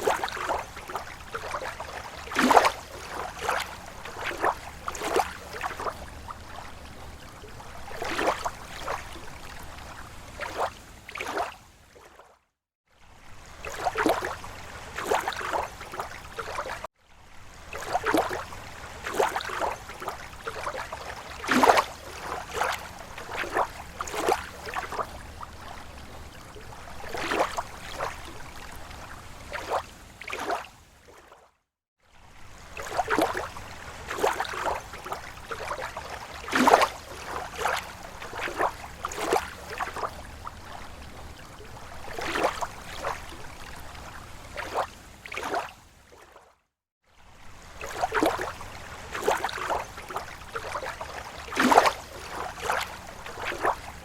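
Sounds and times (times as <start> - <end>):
small waves lapping on shore: 0.0 - 54.0.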